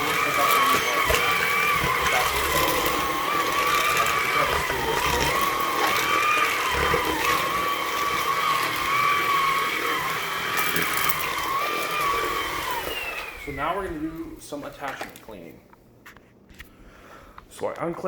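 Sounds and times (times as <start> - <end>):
stick vacuum motor whine: 0.0 - 15.3.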